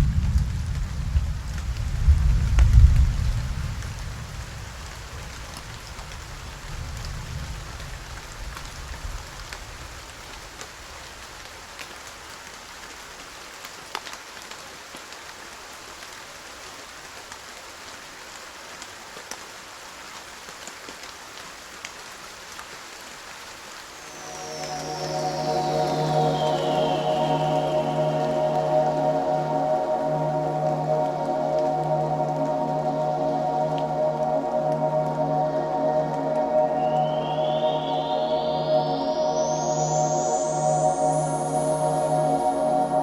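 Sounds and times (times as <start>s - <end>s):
raindrops ticking on a surface: 0.0s - 38.4s
steady rain: 0.0s - 43.0s.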